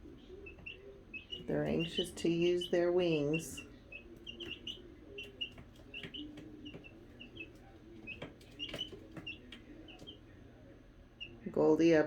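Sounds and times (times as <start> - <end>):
chicks chirping: 0.0 - 10.4, 11.1 - 11.4.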